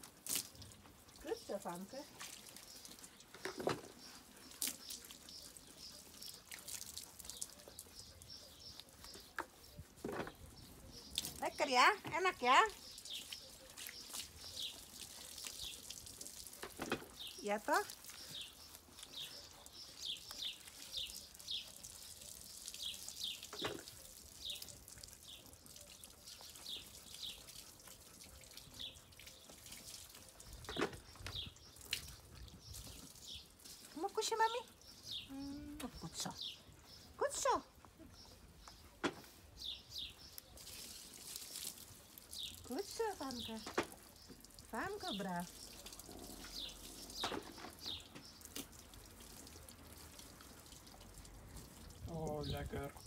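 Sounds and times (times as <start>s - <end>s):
water splashing and dripping: 0.0s - 36.4s, 39.0s - 53.0s.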